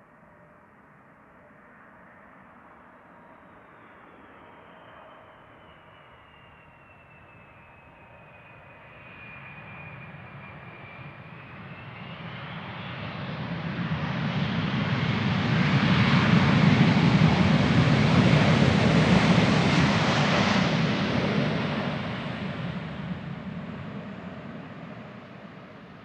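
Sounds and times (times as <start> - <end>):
jet engines approaching: 3.5 - 26.0.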